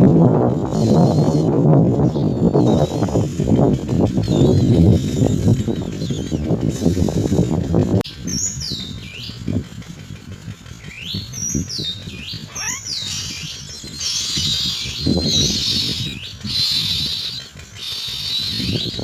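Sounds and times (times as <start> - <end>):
myna birds calling: 0.0 - 19.0
wind rumble on microphone: 0.0 - 19.0.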